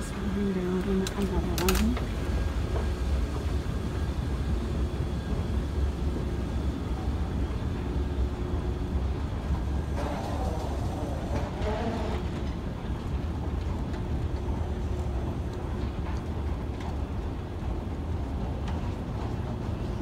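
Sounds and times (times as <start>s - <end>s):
escalator machinery rumbling: 0.0s - 20.0s.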